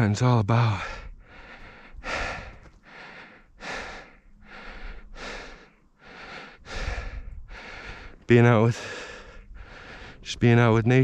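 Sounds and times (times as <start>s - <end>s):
man breathing hard: 0.7s - 10.3s.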